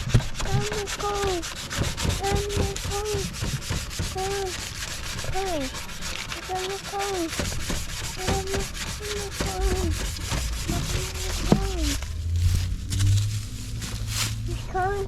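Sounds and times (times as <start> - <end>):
sanding plastic: 0.0 - 15.0.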